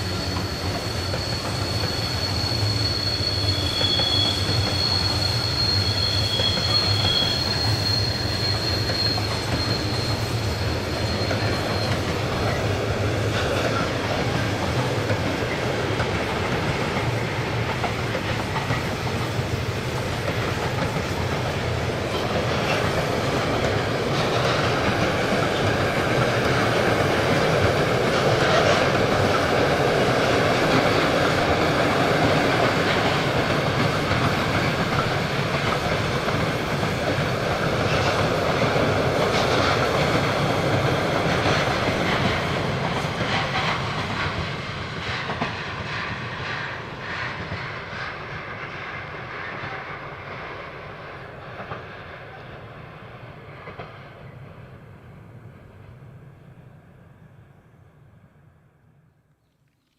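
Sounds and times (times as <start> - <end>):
train wheels clickety-clack: 0.0 - 54.8.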